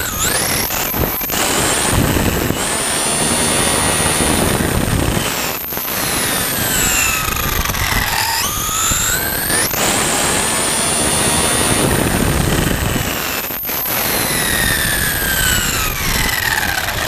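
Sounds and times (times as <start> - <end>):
electric motor whine: 0.0 - 17.0
wind and tyres on asphalt: 0.0 - 17.0.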